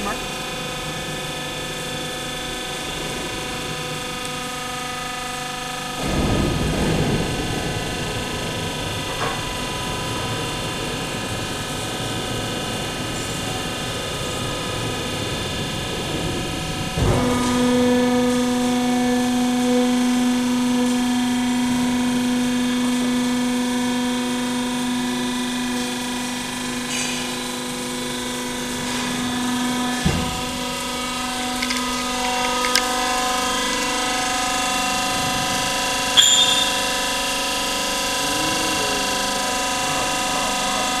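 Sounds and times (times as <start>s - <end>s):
hydraulic pump motor hum: 0.0s - 41.0s.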